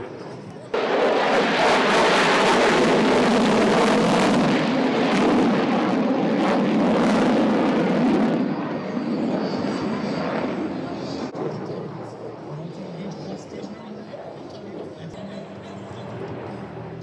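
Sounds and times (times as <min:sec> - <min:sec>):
helicopter engine and rotor noise: 0:00.0 - 0:17.0.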